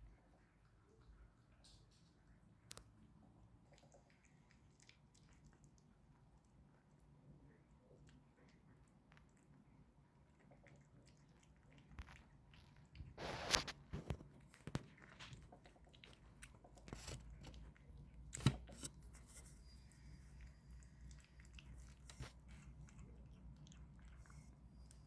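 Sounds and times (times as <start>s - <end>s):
kitten chewing food: 0.0s - 25.0s.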